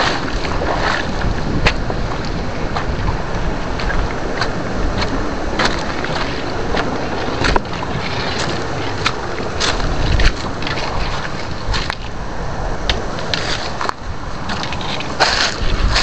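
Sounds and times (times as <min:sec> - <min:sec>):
water sloshing and splashing: 0:00.0 - 0:16.0
wind rumbling on microphone: 0:00.0 - 0:16.0.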